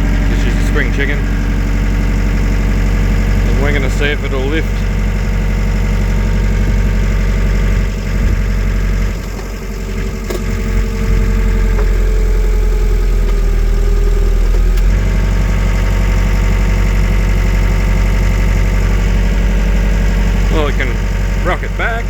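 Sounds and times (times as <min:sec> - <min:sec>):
diesel engine running under load: 0:00.0 - 0:22.0.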